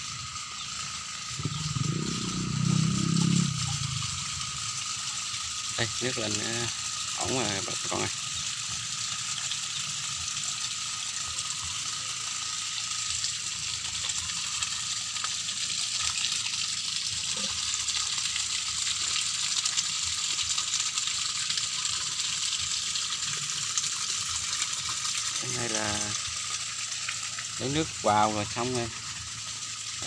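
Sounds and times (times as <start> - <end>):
water gushing from pipe splashing: 0.0 - 30.0.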